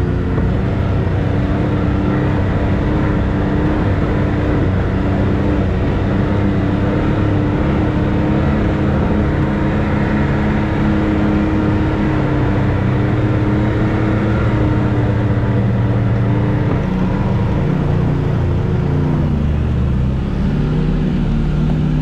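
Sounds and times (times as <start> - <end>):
utility vehicle engine running: 0.0 - 22.0.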